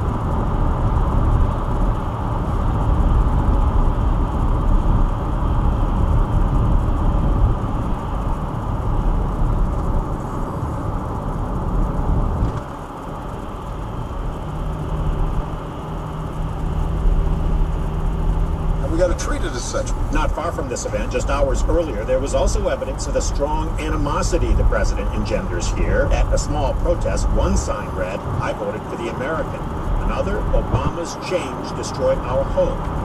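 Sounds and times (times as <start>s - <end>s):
low steady hum: 0.0s - 33.0s
road and tyre noise in car: 0.0s - 33.0s.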